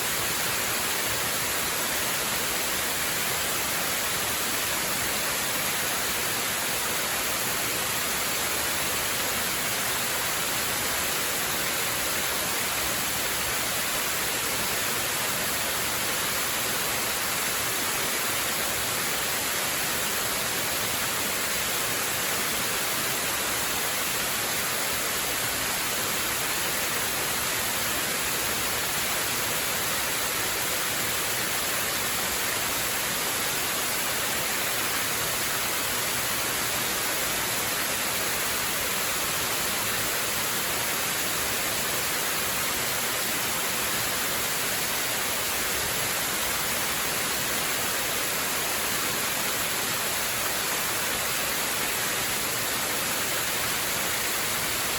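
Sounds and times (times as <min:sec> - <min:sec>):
waterfall hissing: 0:00.0 - 0:54.9.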